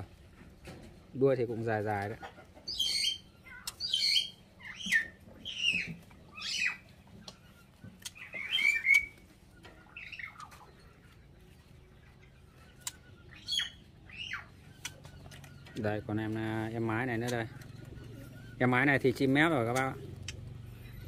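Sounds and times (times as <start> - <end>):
bird harsh downward calls: 2.6 - 11.2, 11.9 - 21.0.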